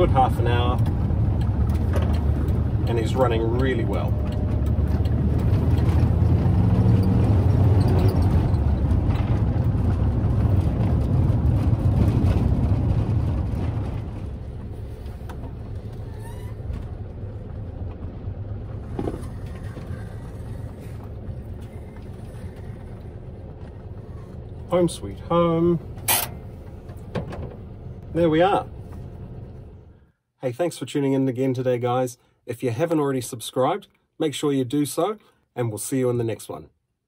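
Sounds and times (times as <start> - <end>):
van engine running: 0.0 - 30.2.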